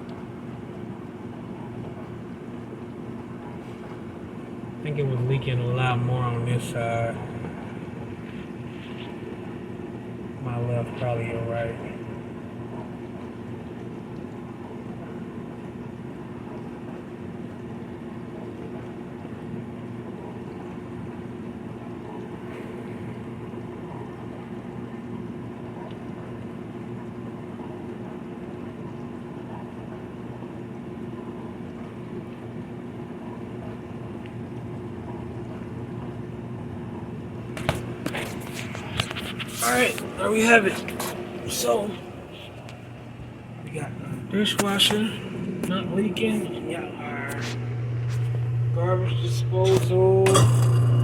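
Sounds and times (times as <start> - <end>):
dishwasher motor humming: 0.0 - 51.0.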